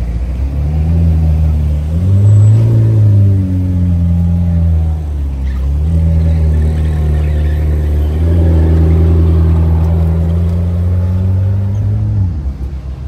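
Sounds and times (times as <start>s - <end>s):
sports car engine running: 0.0s - 13.0s.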